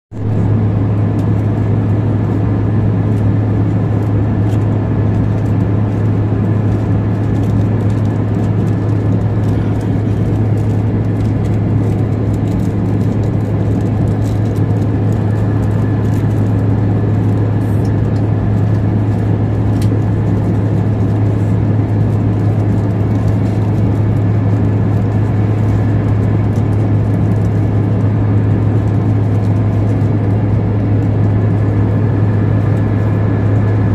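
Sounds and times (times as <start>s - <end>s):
constant low hum: 0.1s - 33.9s
jet engines and airflow rush: 0.1s - 33.9s.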